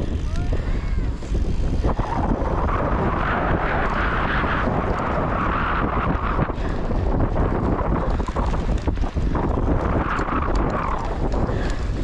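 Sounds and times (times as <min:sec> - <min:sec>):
bike rattling over rough ground: 0:00.0 - 0:12.0
wind rumbling on microphone: 0:00.0 - 0:12.0.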